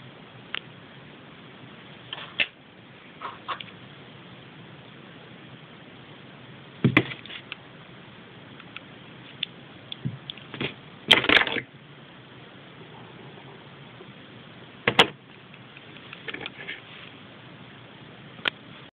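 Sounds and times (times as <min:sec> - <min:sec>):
steady hiss: 0:00.0 - 0:18.9.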